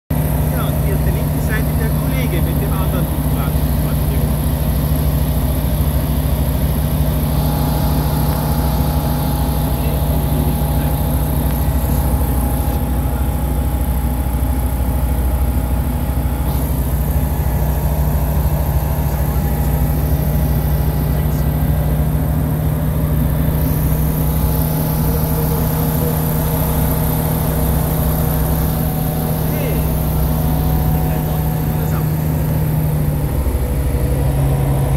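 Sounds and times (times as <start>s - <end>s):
propeller aircraft engine droning: 0.1s - 34.9s.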